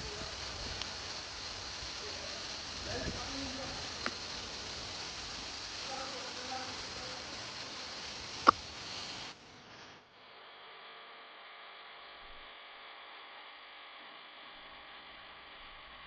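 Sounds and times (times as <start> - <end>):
faint electrical hum: 0.0 - 16.0
steady rushing hiss: 0.0 - 16.0.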